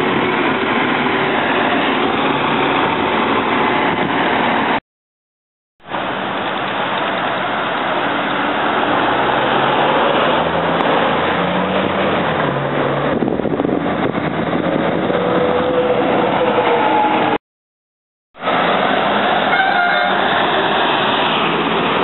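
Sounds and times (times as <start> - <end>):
bus engine: 0.0 - 4.8, 5.8 - 17.4, 18.4 - 22.0
traffic noise: 0.0 - 4.8, 5.8 - 17.4, 18.4 - 22.0.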